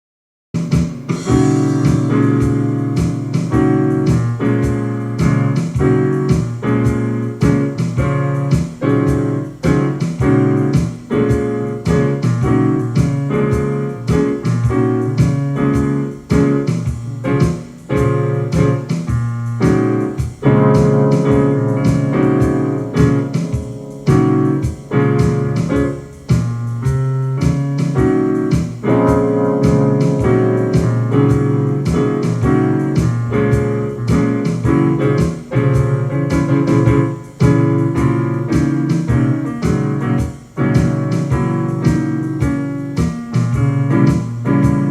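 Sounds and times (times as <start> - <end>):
jazz piano: 0.6 - 44.9.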